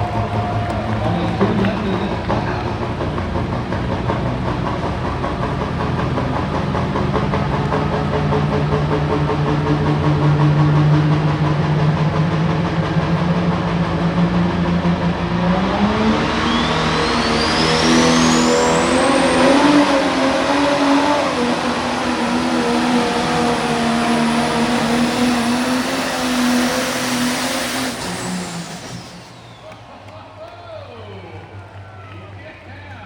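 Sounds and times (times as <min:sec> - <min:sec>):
diesel engine running under load: 0:00.0 - 0:33.0
high turbo whine: 0:00.0 - 0:33.0.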